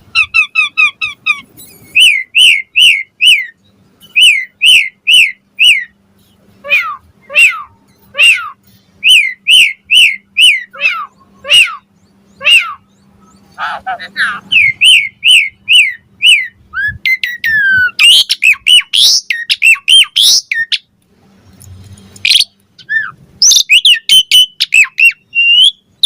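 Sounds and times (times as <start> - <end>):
starling whistling song: 0.1 - 6.0, 6.6 - 20.9, 22.2 - 26.0.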